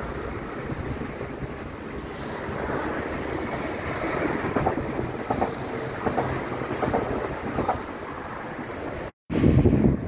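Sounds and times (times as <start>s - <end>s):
wheels clicking over rail joints: 0.0s - 9.1s
train rumbling past: 0.0s - 10.0s.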